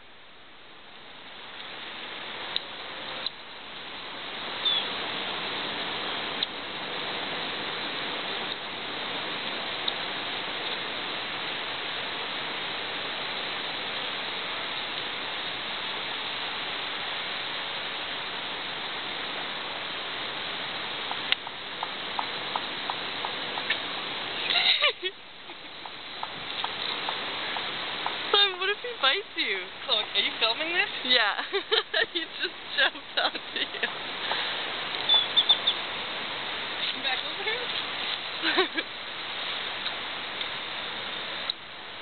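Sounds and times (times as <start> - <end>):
steady rushing noise: 0.0 - 42.0.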